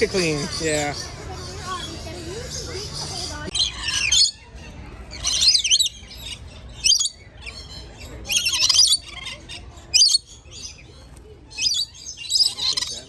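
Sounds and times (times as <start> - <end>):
lorikeets squawking: 0.0 - 13.0.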